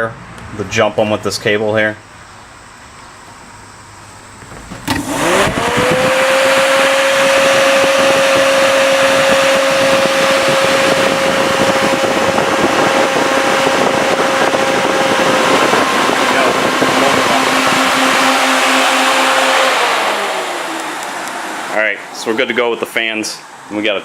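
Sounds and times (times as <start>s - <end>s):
fans whining: 0.0s - 24.0s
rushing air: 4.5s - 23.7s.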